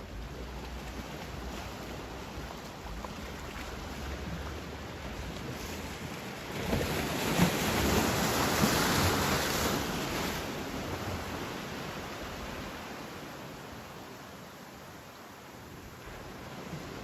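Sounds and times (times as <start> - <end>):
wave breaking on beach: 0.0 - 14.2.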